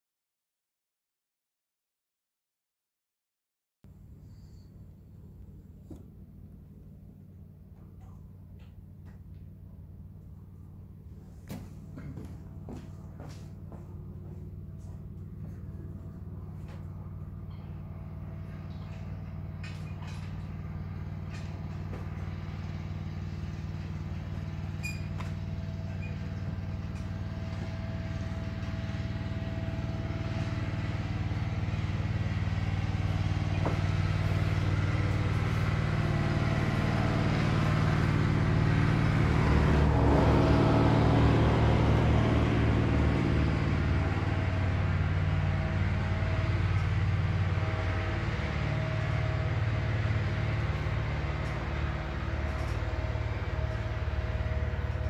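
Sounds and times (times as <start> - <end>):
engine drone: 3.9 - 55.0.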